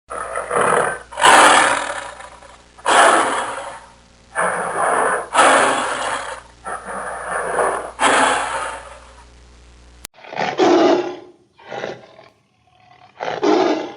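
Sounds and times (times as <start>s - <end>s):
tiger roaring: 0.1s - 9.1s, 10.2s - 13.9s.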